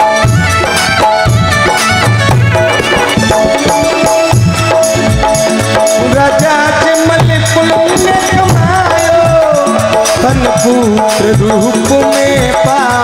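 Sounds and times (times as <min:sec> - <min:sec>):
harmonium holding a note: 0:00.0 - 0:10.9
hand drum rhythm: 0:00.0 - 0:13.0
jingling hand cymbals: 0:00.0 - 0:13.0
keyboard melody: 0:00.0 - 0:13.0.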